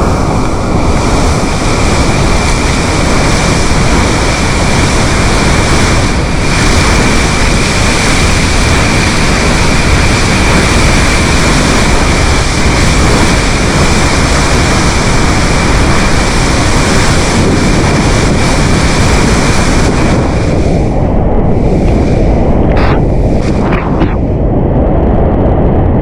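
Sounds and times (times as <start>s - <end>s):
river rushing through dam: 0.0s - 24.2s.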